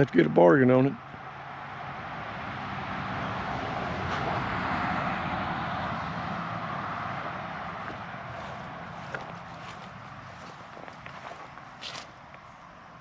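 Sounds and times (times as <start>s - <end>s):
motor vehicle passing: 1.0s - 12.9s.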